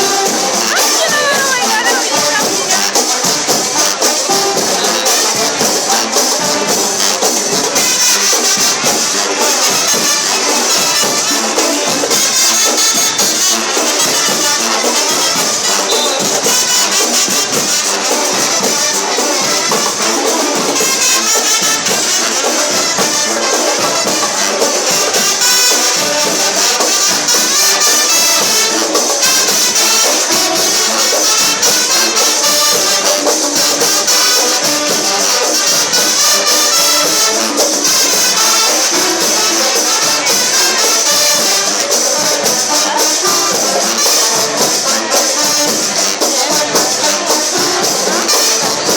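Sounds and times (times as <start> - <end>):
loud music with steady beat: 0.0 - 48.9.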